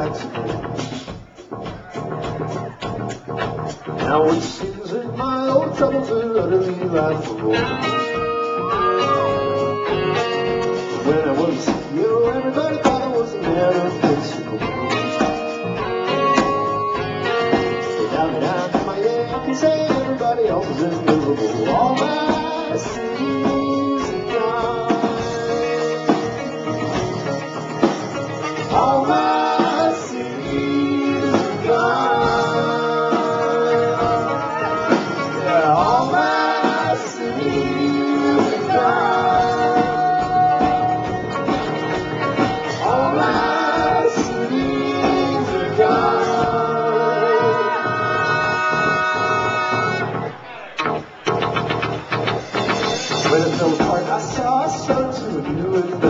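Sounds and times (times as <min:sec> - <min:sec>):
live band music: 0:00.0 - 0:56.0
sustained guitar notes: 0:05.2 - 0:54.6.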